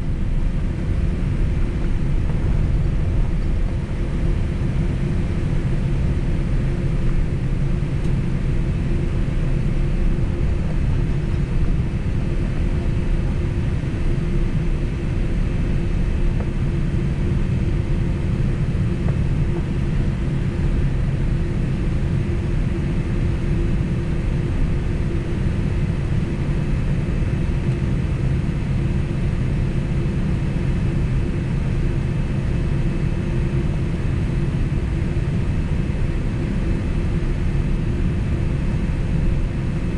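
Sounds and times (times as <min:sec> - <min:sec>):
airliner cabin rumble and hum: 0:00.0 - 0:39.9.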